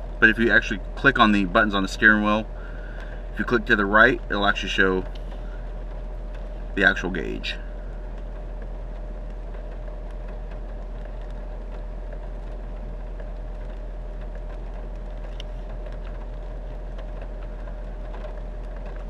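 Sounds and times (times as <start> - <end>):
car engine idling: 0.0 - 19.0
faint steady whine: 0.0 - 19.0.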